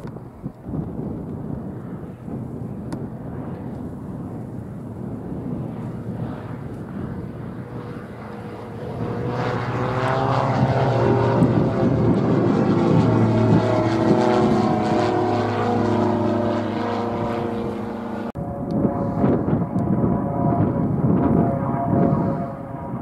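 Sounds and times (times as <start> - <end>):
propeller aircraft drone: 0.0 - 23.0.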